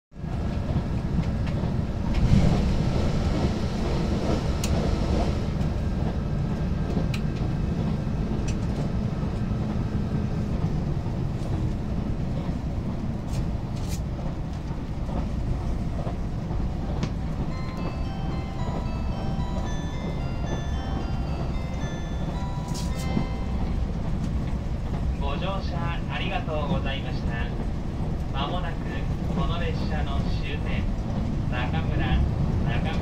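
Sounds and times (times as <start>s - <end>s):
railcar engine and wheels rumbling: 0.1s - 33.0s.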